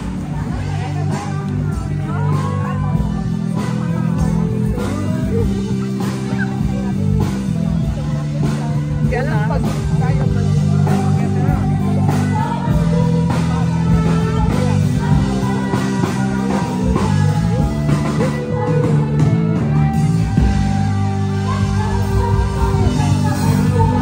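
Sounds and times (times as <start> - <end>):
rock music with singing: 0.0 - 24.0.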